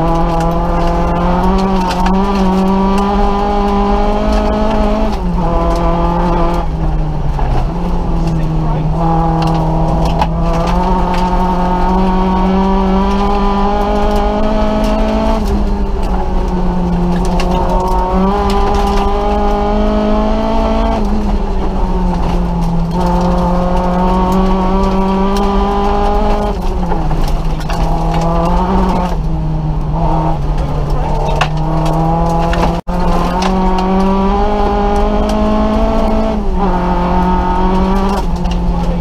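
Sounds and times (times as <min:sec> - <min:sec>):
gravel clicking against car: 0:00.0 - 0:39.0
rally car engine revving: 0:00.0 - 0:39.0.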